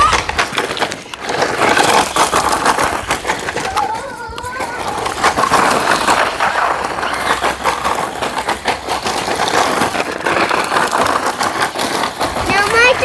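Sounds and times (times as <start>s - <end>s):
toy truck motor and tyres rushing: 0.0s - 13.0s.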